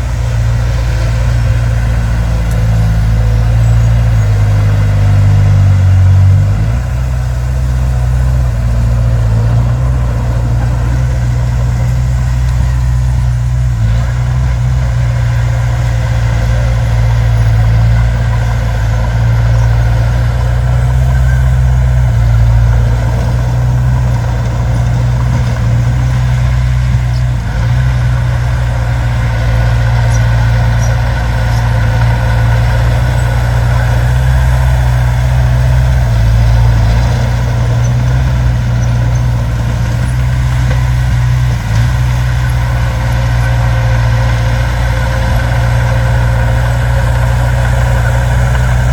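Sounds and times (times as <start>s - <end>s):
heavy diesel engine droning: 0.0s - 48.9s.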